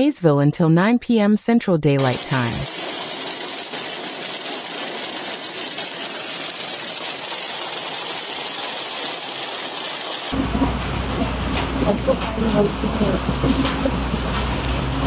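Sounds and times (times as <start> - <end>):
heavy rain falling: 2.7 - 15.0.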